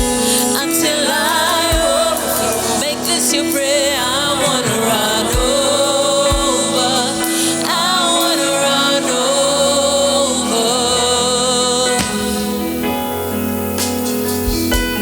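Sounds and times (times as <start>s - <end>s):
gospel singing with vibrato: 0.0s - 15.0s.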